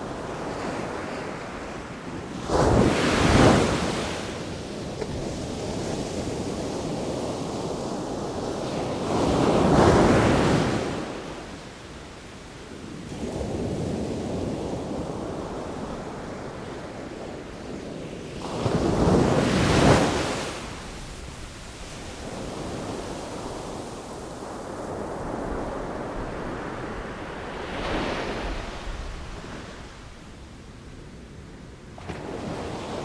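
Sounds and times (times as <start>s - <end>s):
ocean waves washing ashore: 0.0s - 33.0s.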